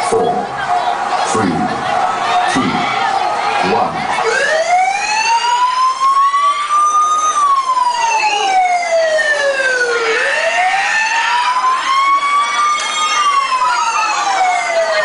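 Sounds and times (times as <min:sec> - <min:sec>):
wailing siren: 0:00.3 - 0:15.0.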